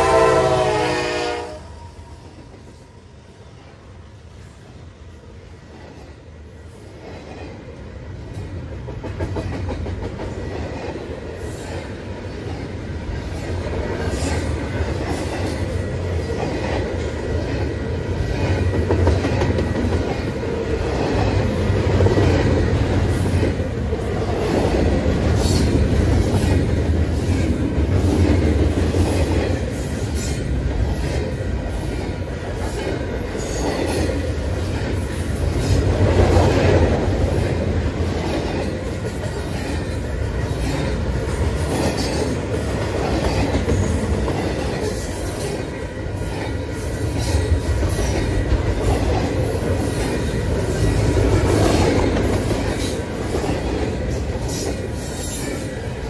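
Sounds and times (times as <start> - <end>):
heavy train rumble: 0.0 - 56.0
train wheels clacking over rail joints: 8.3 - 56.0.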